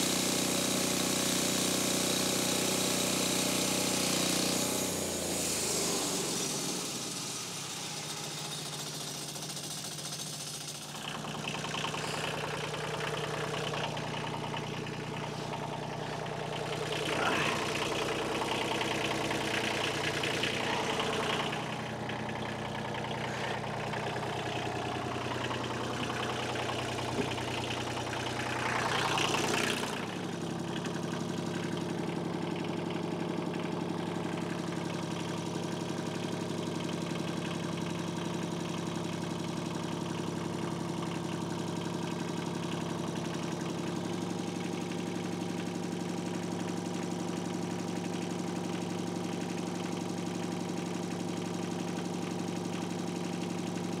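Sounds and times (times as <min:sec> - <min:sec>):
sawmill engine idling: 0:00.0 - 0:54.0
tractor engine idling: 0:00.0 - 0:54.0.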